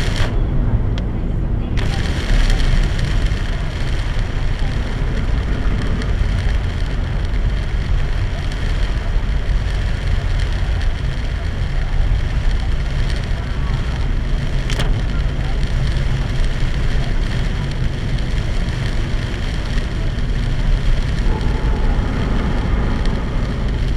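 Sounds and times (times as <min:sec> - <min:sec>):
heavy rain hitting car: 0:00.0 - 0:23.9
road and tyre noise: 0:00.0 - 0:23.9.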